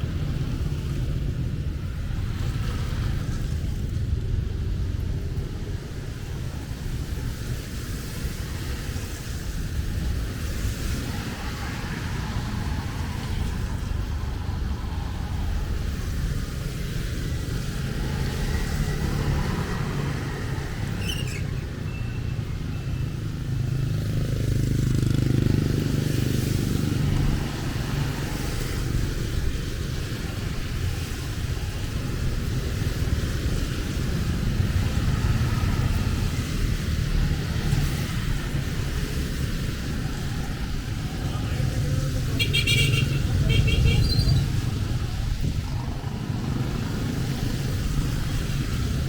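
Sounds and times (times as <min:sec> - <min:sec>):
motorbikes passing: 0:00.0 - 0:49.0.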